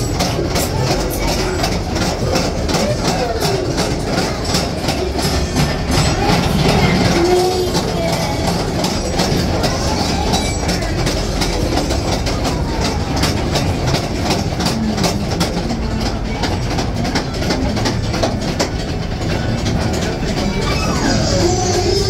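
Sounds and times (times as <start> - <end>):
clatter of wheels and couplings: 0.0 - 22.0
ore cars rumbling on track: 0.0 - 22.0.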